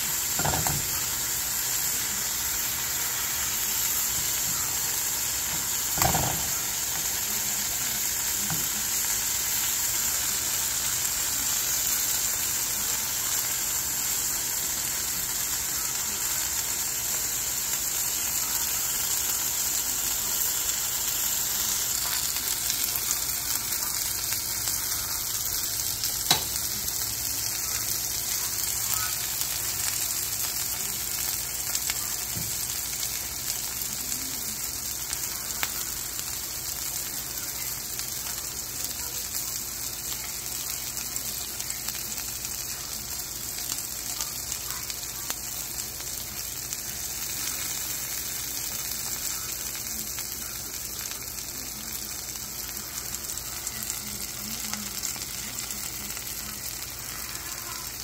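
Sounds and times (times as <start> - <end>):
meat and onions sizzling in skillet: 0.0 - 58.0.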